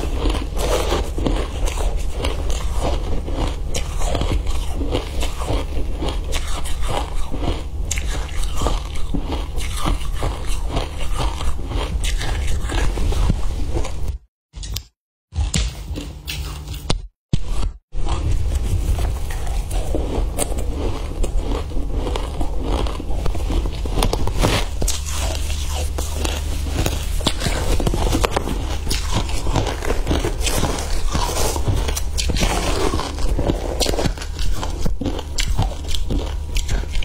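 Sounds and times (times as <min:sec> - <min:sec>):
shaved ice crunching while chewed: 0:00.0 - 0:14.1, 0:18.0 - 0:37.0.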